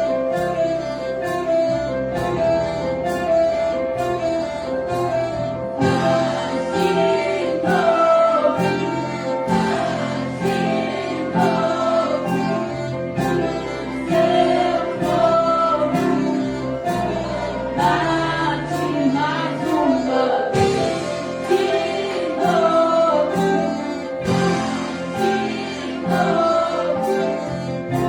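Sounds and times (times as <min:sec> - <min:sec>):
choir singing: 0:00.0 - 0:28.0
string and wind orchestra playing: 0:00.0 - 0:28.0.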